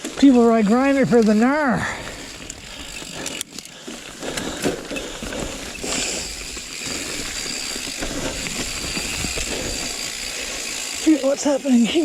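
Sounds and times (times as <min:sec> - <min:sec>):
bike chain and frame rattling: 0:00.0 - 0:12.0
bike tyres rolling over rocks: 0:00.0 - 0:12.0.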